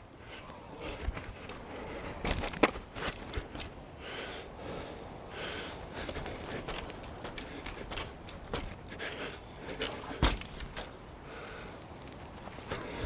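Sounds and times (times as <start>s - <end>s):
rider breathing: 0.0s - 13.0s
mountain bike clicks and knocks: 0.3s - 3.8s, 5.9s - 13.0s.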